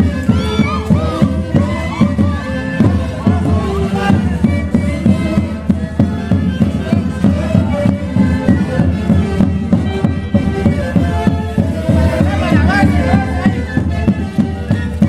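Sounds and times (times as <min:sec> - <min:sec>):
reed wind instruments: 0:00.0 - 0:15.0
steady beat: 0:00.0 - 0:15.0
violin melody: 0:00.0 - 0:15.0.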